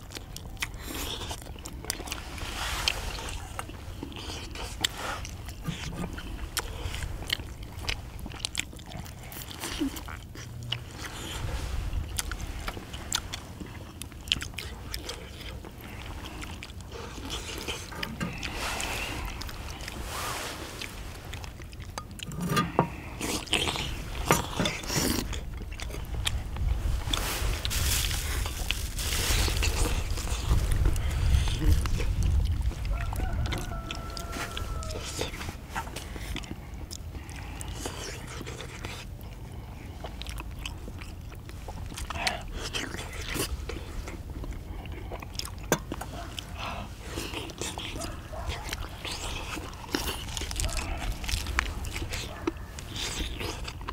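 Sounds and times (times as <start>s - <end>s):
people chewing: 0.0s - 53.9s.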